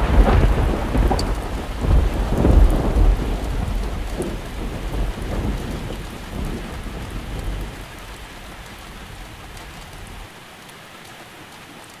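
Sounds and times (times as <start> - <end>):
low rolling thunder: 0.0 - 10.3
steady rain: 0.0 - 12.0.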